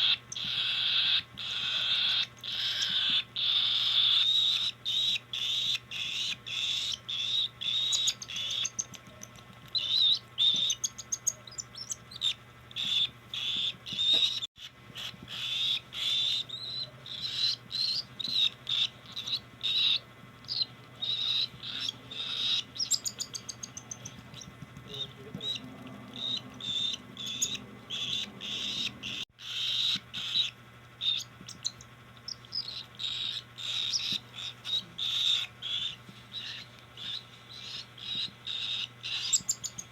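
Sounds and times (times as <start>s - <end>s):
chicks food-begging calls: 0.0s - 39.9s.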